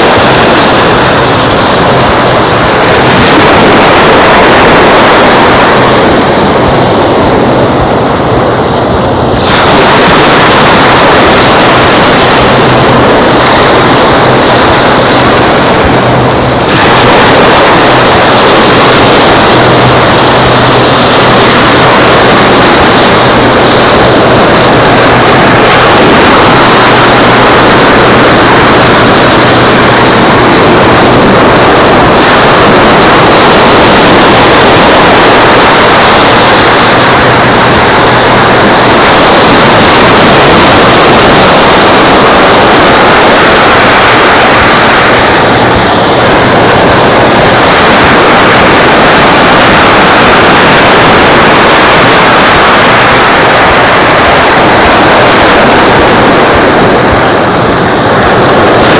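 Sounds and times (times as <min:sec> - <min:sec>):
surf rushing: 0:00.0 - 0:58.9
wind: 0:00.0 - 0:58.9.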